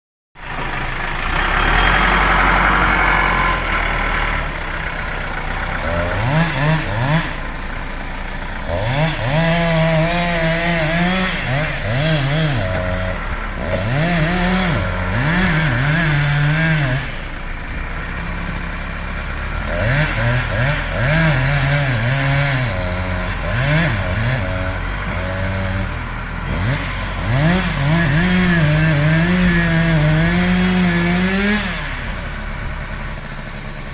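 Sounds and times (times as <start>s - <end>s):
chainsaw engine revving: 0.4s - 33.9s.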